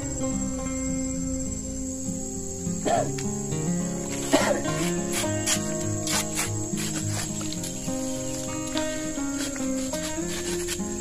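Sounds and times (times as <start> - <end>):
high insect buzz: 0.0 - 11.0
plucked guitar music: 0.0 - 11.0.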